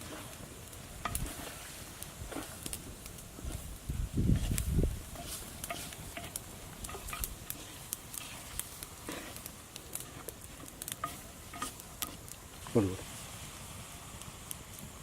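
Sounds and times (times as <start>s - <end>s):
spices frying in oil: 0.0s - 15.0s.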